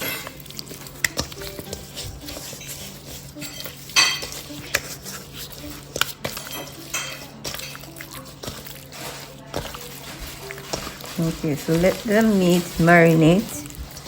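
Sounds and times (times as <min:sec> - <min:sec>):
raw chicken tossed in a bowl: 0:00.0 - 0:14.0
utensil clinking against dish: 0:00.0 - 0:14.0.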